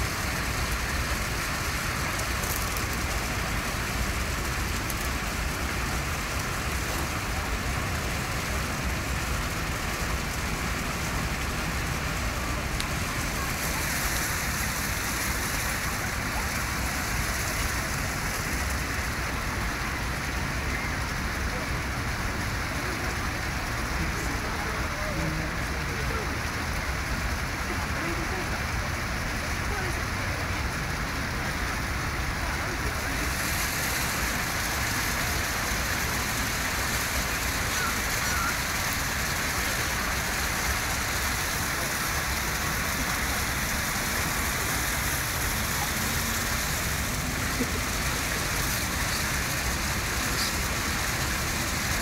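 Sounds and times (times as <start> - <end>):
rushing hiss: 0.0 - 52.0.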